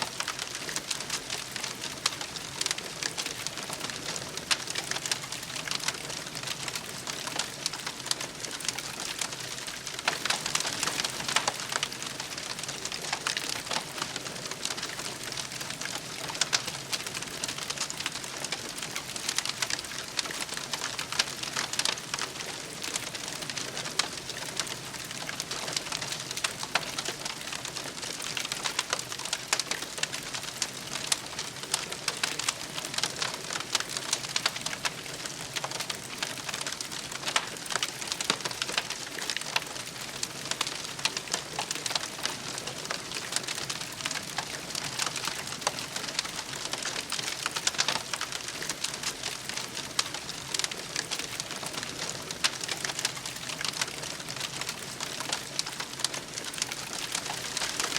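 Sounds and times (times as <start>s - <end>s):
wood campfire crackling: 0.0s - 57.9s.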